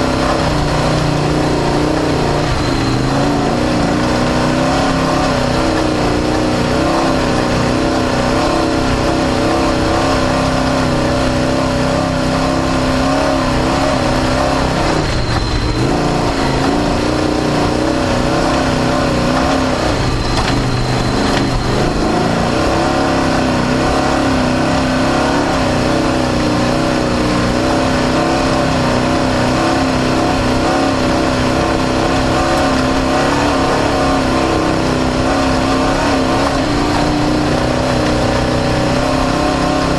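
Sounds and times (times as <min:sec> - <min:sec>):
vehicle engine revving high: 0:00.0 - 0:39.9.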